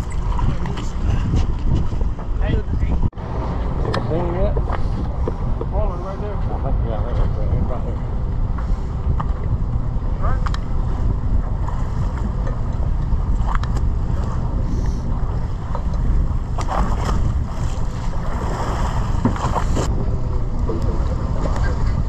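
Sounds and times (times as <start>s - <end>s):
fishing boat at sea: 0.0s - 22.0s
wind rumble on microphone: 0.0s - 22.0s.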